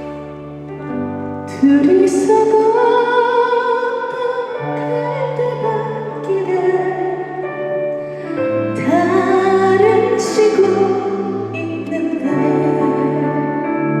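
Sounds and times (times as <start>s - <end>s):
woman singing: 1.5s - 14.0s.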